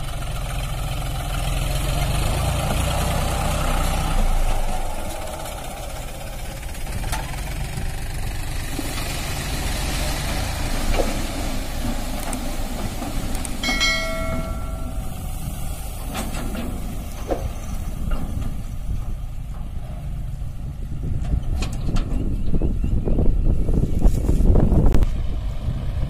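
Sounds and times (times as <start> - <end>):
tractor diesel engine: 0.0 - 23.8.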